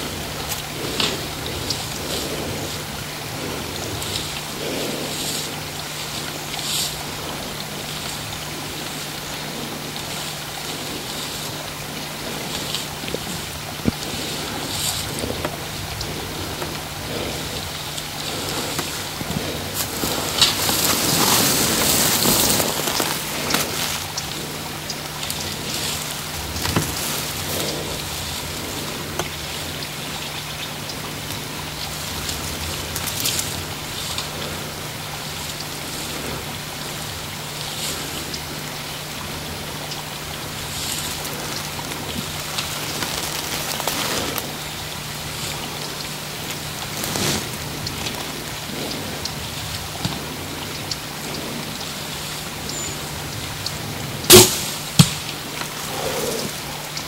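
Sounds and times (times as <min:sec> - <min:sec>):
rain on leaves: 0:00.0 - 0:57.0
steady low hum: 0:00.0 - 0:57.0.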